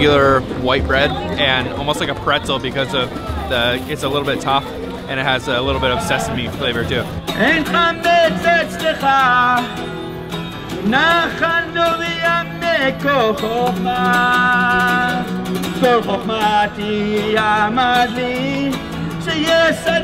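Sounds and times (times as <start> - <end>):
man singing: 0.0 - 9.9, 10.8 - 20.0
acoustic guitar: 0.0 - 20.0.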